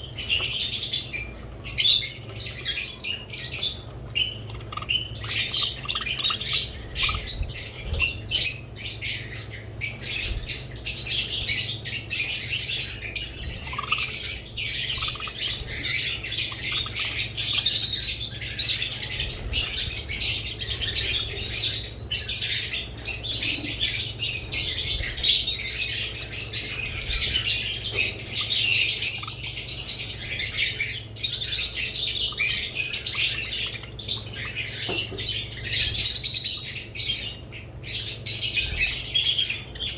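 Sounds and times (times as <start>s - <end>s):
bird squawk: 0.0s - 39.9s
birds chirping and chattering: 0.0s - 39.9s.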